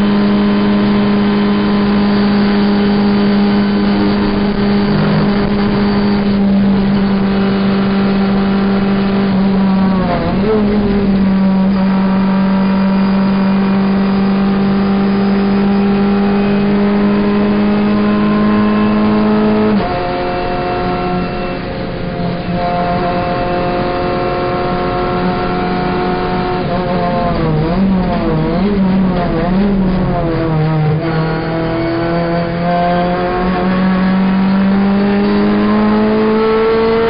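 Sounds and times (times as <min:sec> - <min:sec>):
race car engine at high revs: 0:00.0 - 0:37.0.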